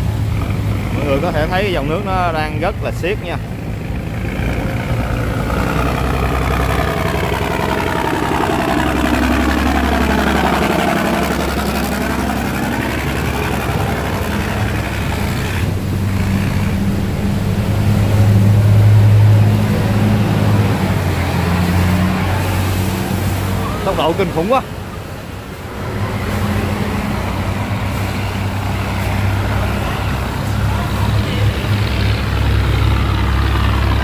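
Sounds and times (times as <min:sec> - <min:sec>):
barge diesel engines: 0:00.0 - 0:34.0.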